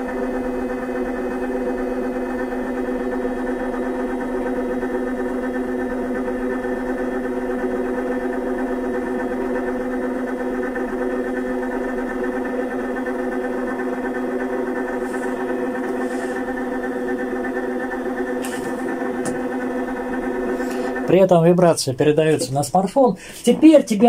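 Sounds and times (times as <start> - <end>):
vibration machine motor buzzing: 0.0 - 24.0.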